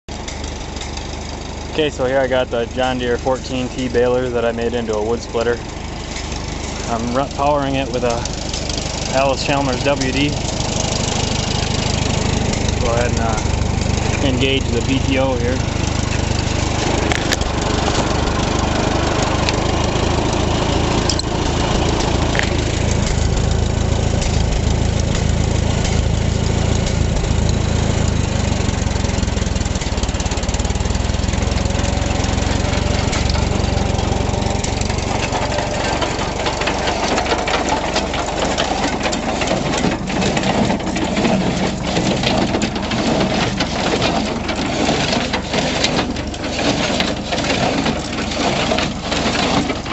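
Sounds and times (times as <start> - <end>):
tractor engine running: 0.0 - 49.9
baler mechanism knocking: 0.1 - 49.9.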